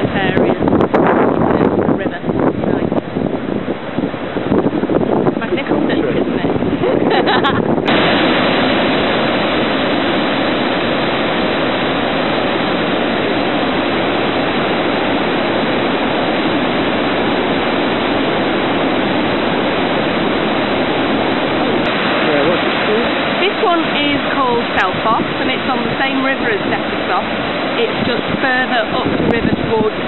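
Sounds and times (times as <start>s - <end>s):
waterfall rushing: 5.5s - 30.0s.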